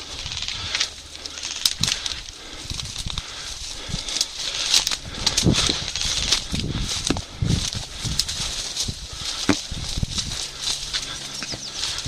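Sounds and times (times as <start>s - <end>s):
footsteps: 0.0s - 12.0s
rustling of brush and gear: 0.0s - 12.0s.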